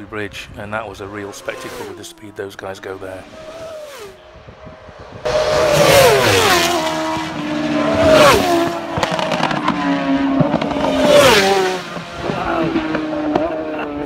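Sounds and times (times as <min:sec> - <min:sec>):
racing motorcycles passing: 0:00.7 - 0:14.0.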